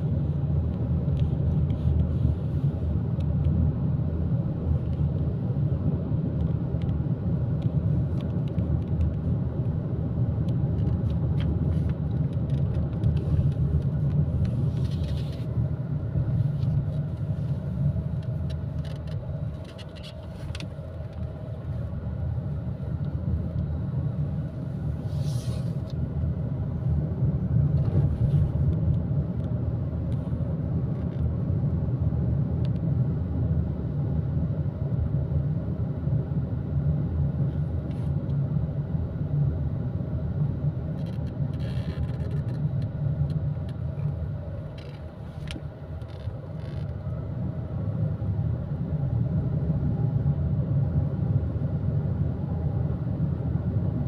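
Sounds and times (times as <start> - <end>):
road and engine noise in car: 0.0 - 54.0.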